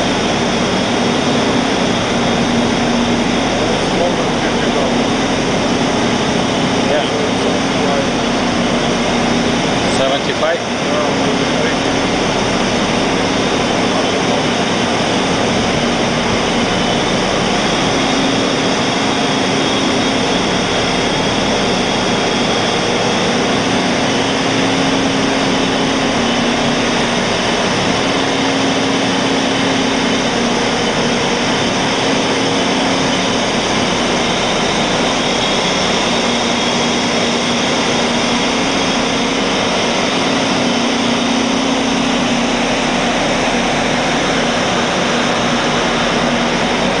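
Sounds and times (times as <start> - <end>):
low hum: 0.0 - 47.0
ship machinery drone: 0.0 - 47.0.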